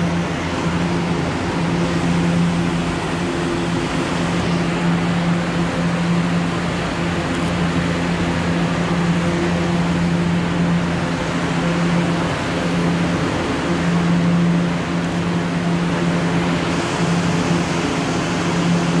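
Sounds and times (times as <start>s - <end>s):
subway train stopping: 0.0s - 19.0s
train equipment humming: 0.0s - 19.0s.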